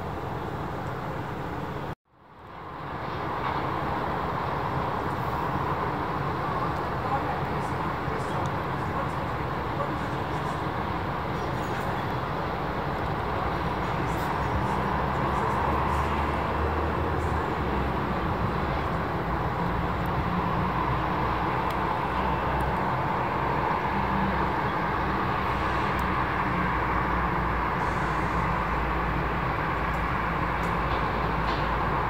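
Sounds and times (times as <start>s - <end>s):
jet engine rumble and hiss: 0.0s - 32.0s.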